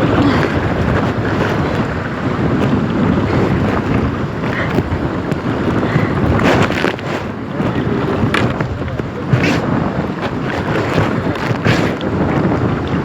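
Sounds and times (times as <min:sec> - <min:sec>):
paddle strokes splashing: 0:00.0 - 0:13.0
waves splashing: 0:00.0 - 0:13.0
wind buffeting microphone: 0:00.0 - 0:13.0.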